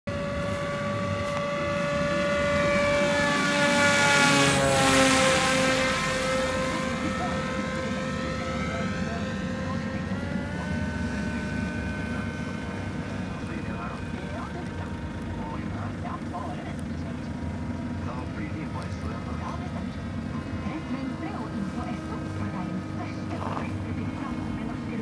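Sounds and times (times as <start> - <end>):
model plane motor whining: 0.1 - 25.0.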